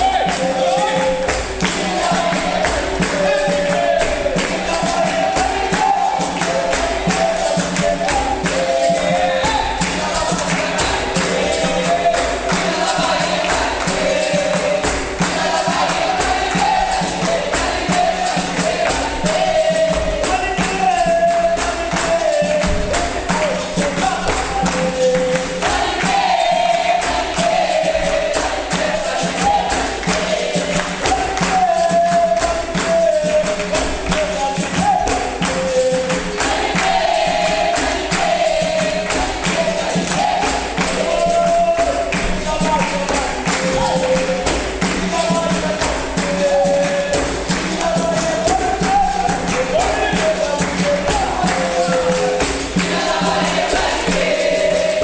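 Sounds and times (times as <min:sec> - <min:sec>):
group singing a chorus: 0:00.0 - 0:55.0
rapid percussion beat: 0:00.0 - 0:55.0.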